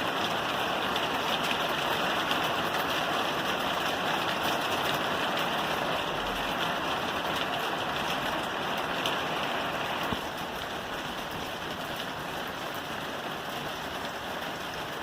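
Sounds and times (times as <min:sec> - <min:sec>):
rain falling on a roof: 0:00.0 - 0:15.0.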